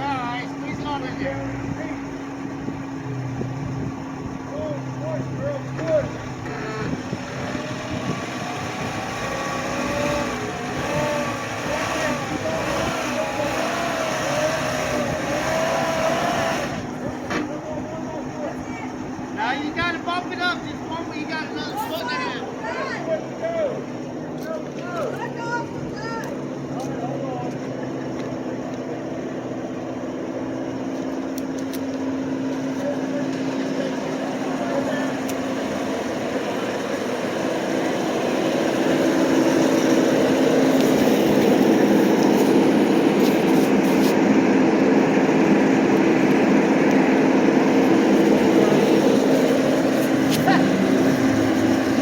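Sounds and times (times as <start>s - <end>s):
off-road engine revving: 0.0s - 18.4s, 26.4s - 52.0s.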